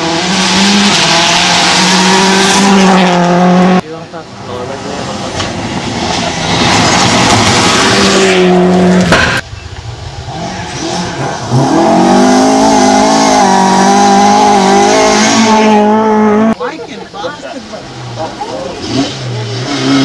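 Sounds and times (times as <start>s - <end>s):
rally car engine at full throttle: 0.0s - 20.0s.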